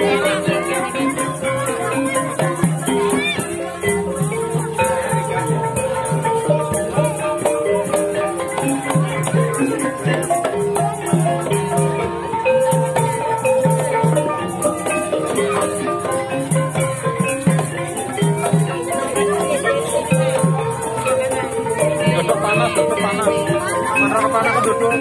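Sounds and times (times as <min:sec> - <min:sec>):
hand drum strokes: 0:00.0 - 0:25.0
keyed percussion melody: 0:00.0 - 0:25.0.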